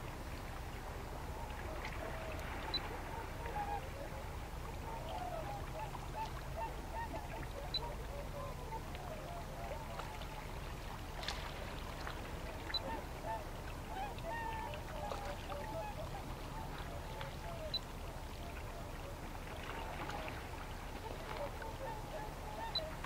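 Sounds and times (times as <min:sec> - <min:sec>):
waterfowl calling: 0:01.3 - 0:23.0.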